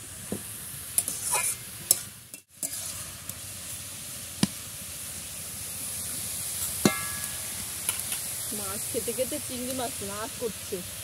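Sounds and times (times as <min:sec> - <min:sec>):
greens sizzling in a wok: 0:00.0 - 0:11.0.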